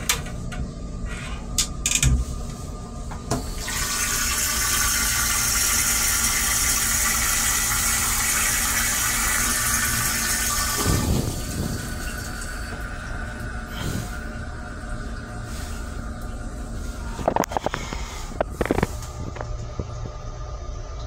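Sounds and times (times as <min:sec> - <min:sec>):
toilet flushing: 0:02.1 - 0:19.4.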